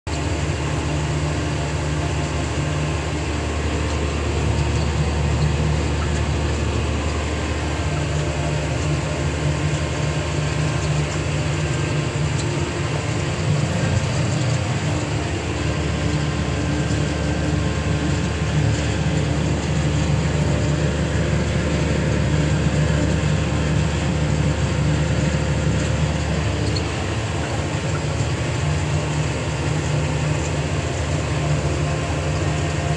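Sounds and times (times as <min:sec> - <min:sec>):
tractor diesel engine droning: 0:00.1 - 0:32.9.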